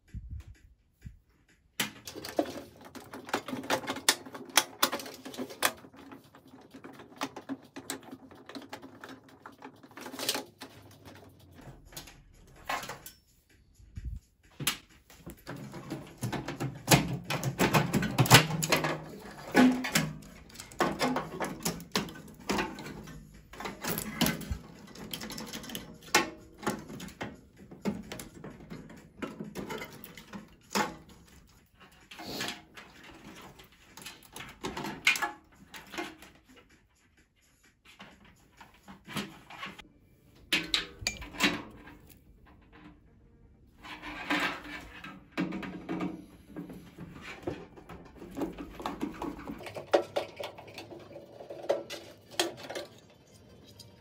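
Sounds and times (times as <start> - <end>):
tools and sheet metal clattering: 1.8 - 36.8, 37.9 - 43.0, 43.8 - 54.0.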